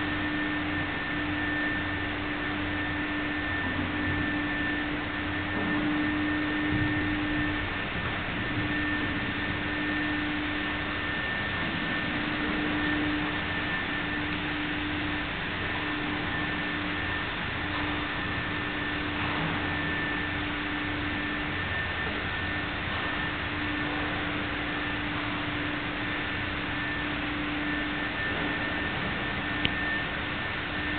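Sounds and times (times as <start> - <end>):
constant hum: 0.0 - 30.9.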